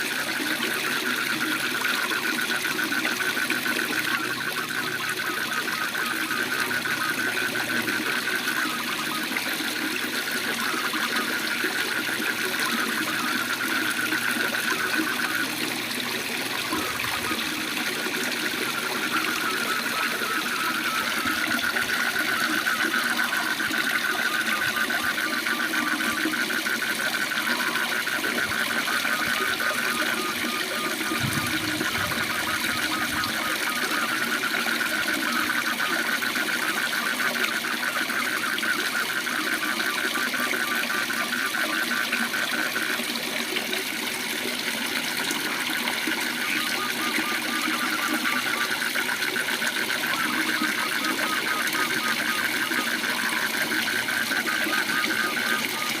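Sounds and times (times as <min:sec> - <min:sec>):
frogs trilling: 0:00.0 - 0:56.0.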